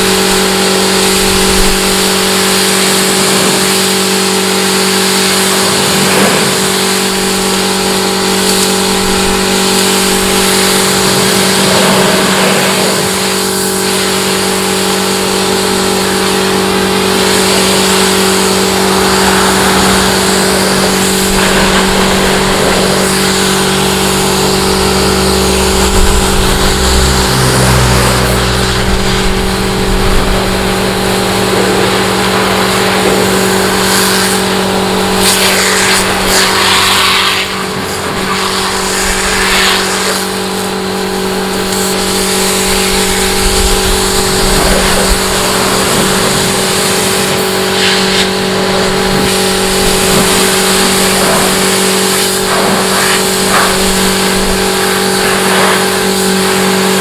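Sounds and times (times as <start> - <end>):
pump motor humming: 0.0 - 57.0
water jet hissing and spattering: 0.0 - 57.0.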